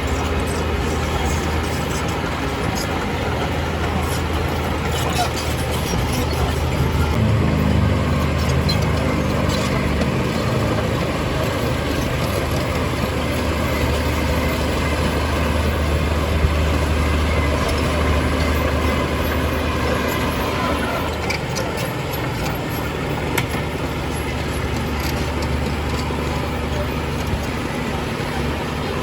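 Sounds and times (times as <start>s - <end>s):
heavy diesel engine droning: 0.0s - 29.0s.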